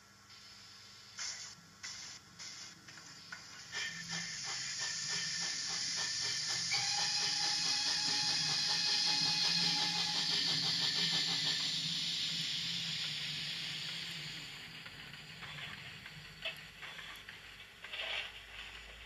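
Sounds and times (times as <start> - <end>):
steam locomotive chuffing: 1.2 - 19.0.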